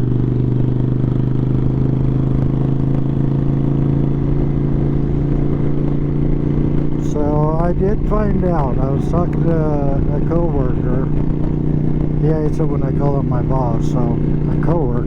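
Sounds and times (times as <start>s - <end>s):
motorcycle engine cruising: 0.0s - 15.0s
wind rumble on microphone: 0.0s - 15.0s.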